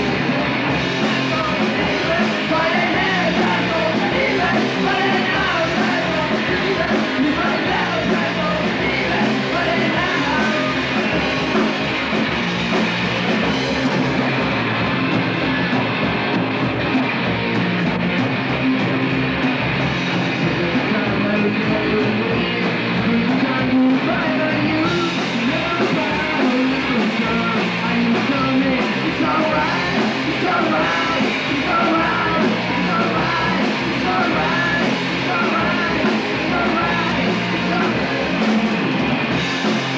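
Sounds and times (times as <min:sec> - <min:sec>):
punk rock band with vocals: 0:00.0 - 0:39.9.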